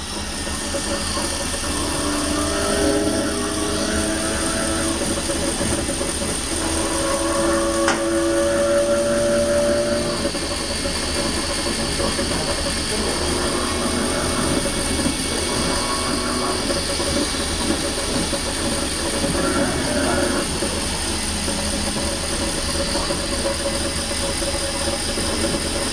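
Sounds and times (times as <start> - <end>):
electric train motors whining: 0.0 - 25.9
train running noise and hiss: 0.0 - 25.9.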